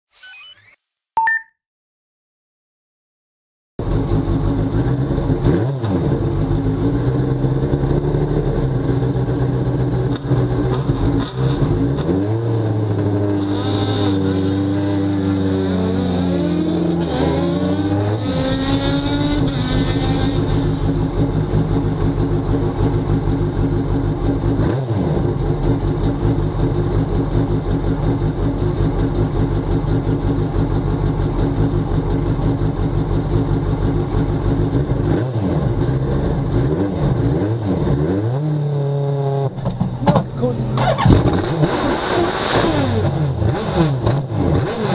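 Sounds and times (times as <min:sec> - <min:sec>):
race car engine revving and idling: 0:03.8 - 0:44.9.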